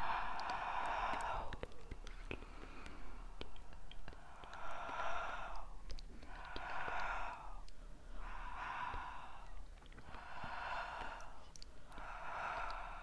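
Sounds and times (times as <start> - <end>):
long airy breaths: 0.0 - 3.5, 4.1 - 13.0
faint clicks: 0.0 - 13.0.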